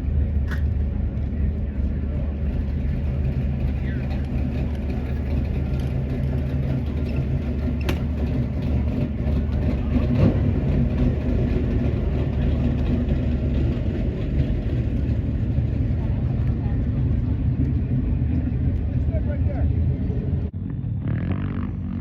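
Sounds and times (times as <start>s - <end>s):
car engine idling: 0.0s - 20.5s.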